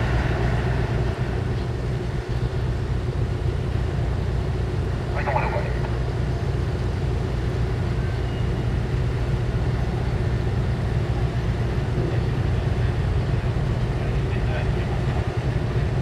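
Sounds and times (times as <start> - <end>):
ship engine humming: 0.0 - 16.0.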